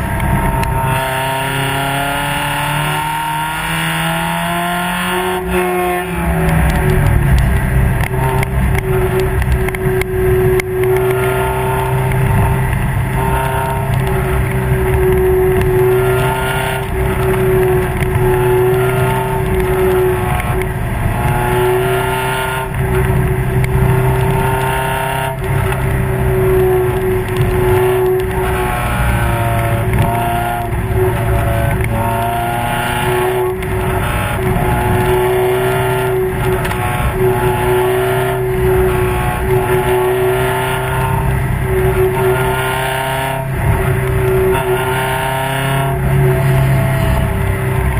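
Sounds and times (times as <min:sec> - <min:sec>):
race car engine revving: 0:00.0 - 0:47.9.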